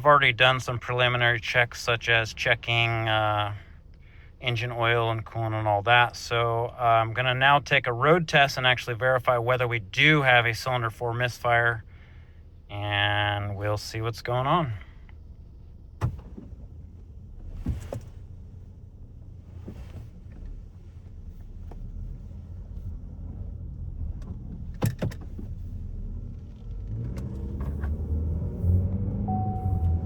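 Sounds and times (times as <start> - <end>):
car engine running: 0.0 - 30.0
road rumble: 0.0 - 30.0.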